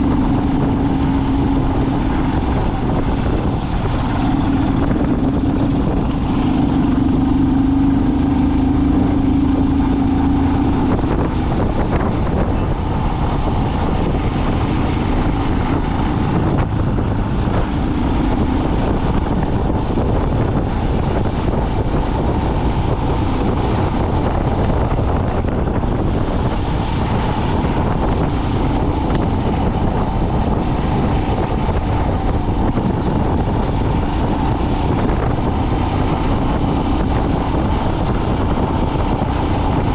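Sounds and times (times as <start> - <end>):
vehicle engine and road rumble: 0.0 - 39.9
wind buffeting microphone: 0.0 - 39.9.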